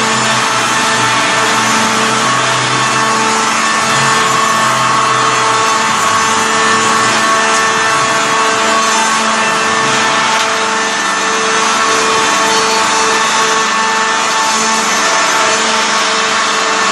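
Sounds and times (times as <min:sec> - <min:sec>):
machine hum: 0:00.0 - 0:16.9
saw blades cutting log: 0:00.0 - 0:16.9.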